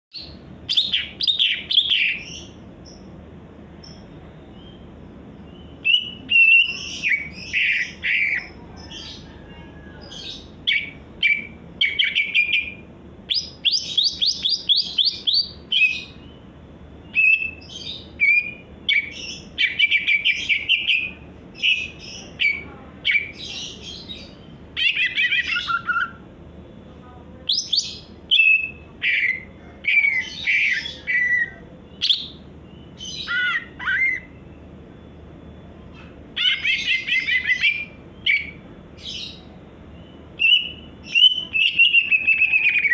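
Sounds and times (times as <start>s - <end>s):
bird singing chirps and trills: 0.1s - 42.9s.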